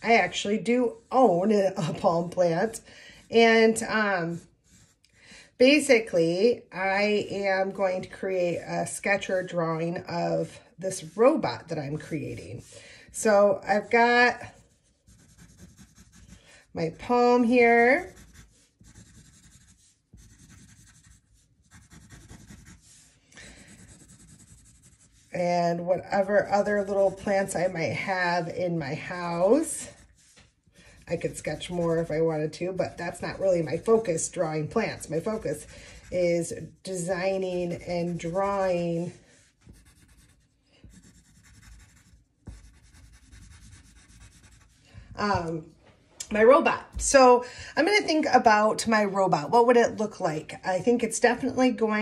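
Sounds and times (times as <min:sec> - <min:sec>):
pencil scratching on paper: 0:00.0 - 0:45.0.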